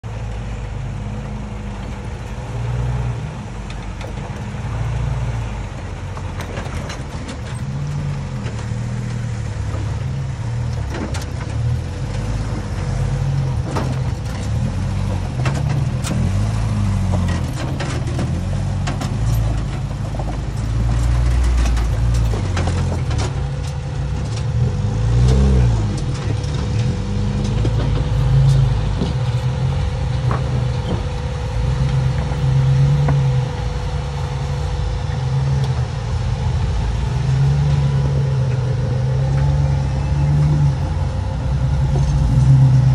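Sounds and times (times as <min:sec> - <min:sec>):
jeep engines at low revs: 0:00.0 - 0:42.9.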